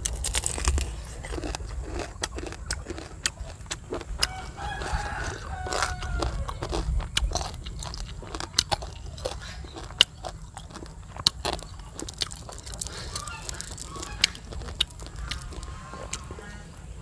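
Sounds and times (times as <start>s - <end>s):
chewing crispy fried fish: 0.0s - 16.8s.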